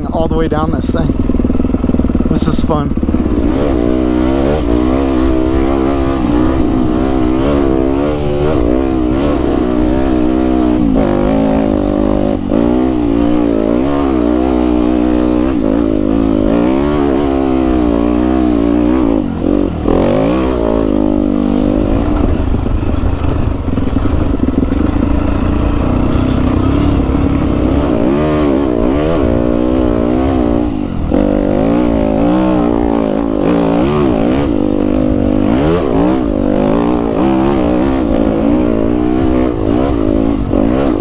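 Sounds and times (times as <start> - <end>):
dirt bike engine revving: 0.0 - 41.0
wind rumble on microphone: 2.9 - 41.0.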